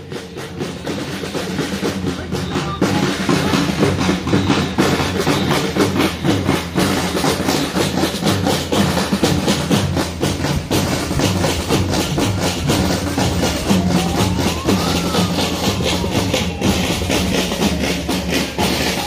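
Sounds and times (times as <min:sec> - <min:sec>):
marching snare and bass drums: 0:00.0 - 0:19.0.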